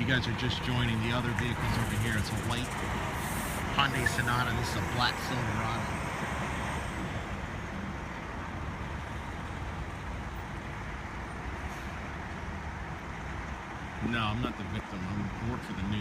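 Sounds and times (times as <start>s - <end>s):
engine rumble: 0.0s - 16.0s
road hiss: 0.0s - 16.0s.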